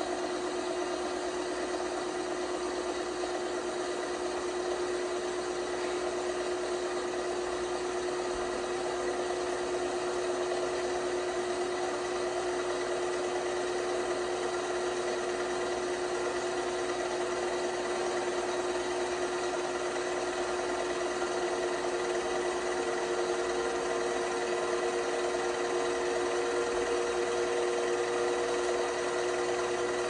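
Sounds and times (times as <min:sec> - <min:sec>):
washing machine running: 0:00.0 - 0:30.0.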